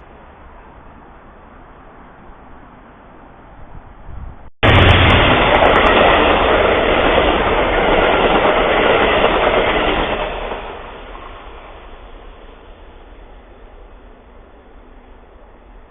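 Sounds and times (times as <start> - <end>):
train passing on tracks: 0.0 - 15.9.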